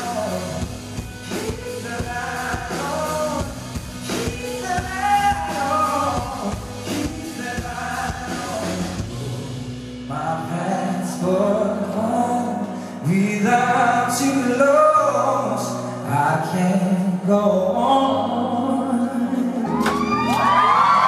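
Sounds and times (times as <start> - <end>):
bass: 0.0 - 21.0
drums: 0.0 - 21.0
guitar: 0.0 - 21.0
male singer: 0.0 - 21.0.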